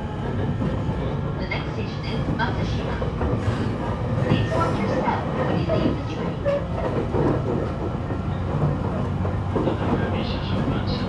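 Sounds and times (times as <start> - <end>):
train motors humming: 0.0 - 11.0
train wheels rumbling on rails: 0.0 - 11.0.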